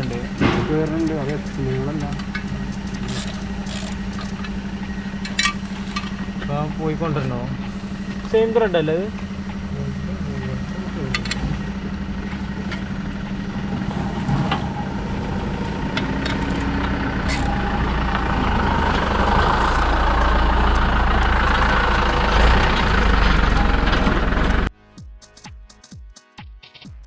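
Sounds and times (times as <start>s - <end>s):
vehicle engine running: 0.0s - 24.7s.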